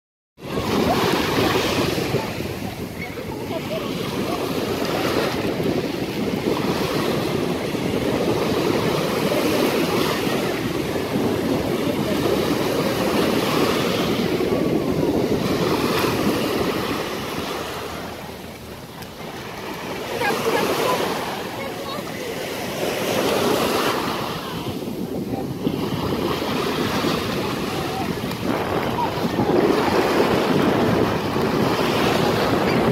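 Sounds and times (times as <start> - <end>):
surf washing in: 0.4 - 32.9
wind buffeting microphone: 0.4 - 32.9.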